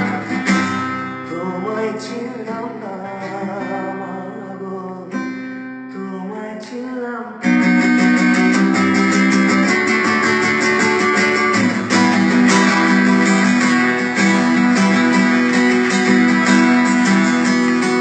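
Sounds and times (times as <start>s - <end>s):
guitars strumming chords: 0.0s - 18.0s.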